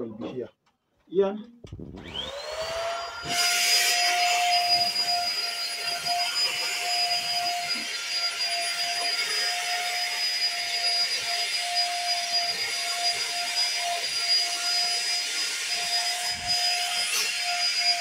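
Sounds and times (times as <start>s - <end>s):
vacuum cleaner running: 1.8s - 18.0s.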